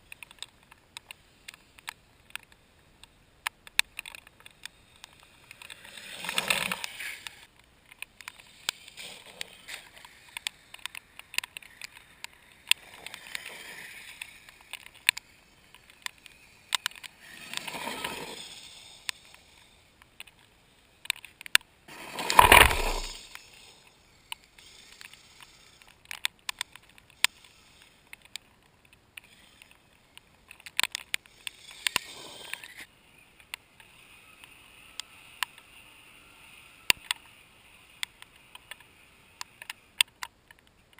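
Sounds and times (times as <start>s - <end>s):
sharp clicks: 0.0s - 40.9s
toy vehicle tracks scraping ice: 4.0s - 40.1s.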